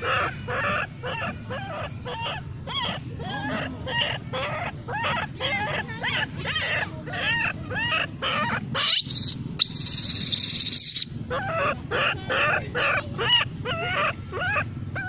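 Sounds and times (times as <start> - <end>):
baby monkey squealing cries: 0.0 - 15.0.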